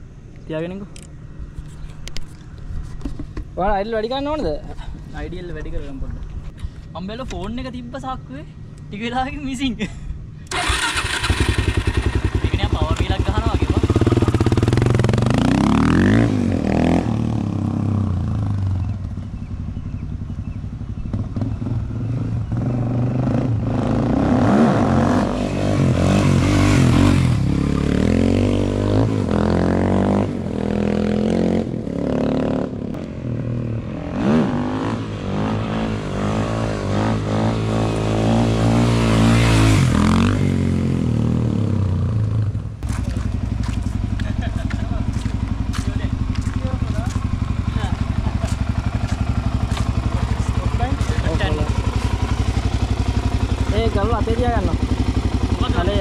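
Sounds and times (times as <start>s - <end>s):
motorcycle engine revving: 10.5s - 56.0s.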